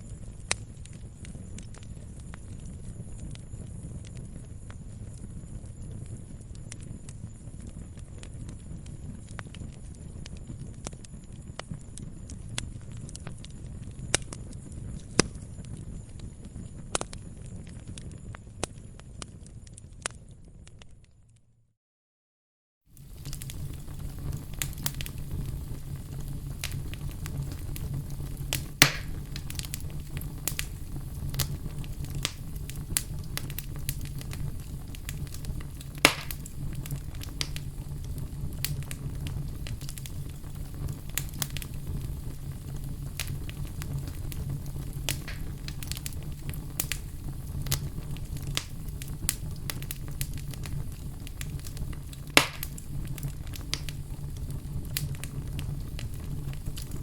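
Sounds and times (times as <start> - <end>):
loud fire pops: 0.0 - 21.0, 22.9 - 57.0
wood fire crackling: 0.0 - 21.2, 22.9 - 57.0.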